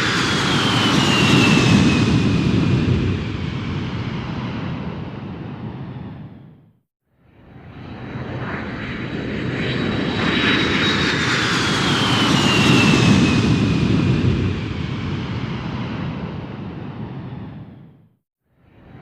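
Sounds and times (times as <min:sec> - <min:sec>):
airplane flying past: 0:00.0 - 0:06.6, 0:07.2 - 0:18.0.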